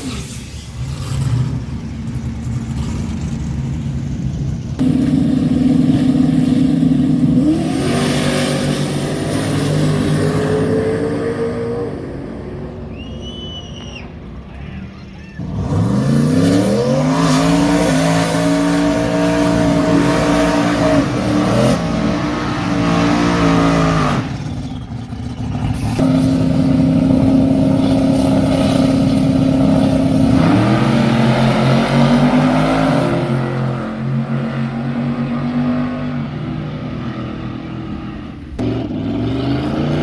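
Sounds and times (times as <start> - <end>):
drag racing engines revving: 0.0 - 40.0.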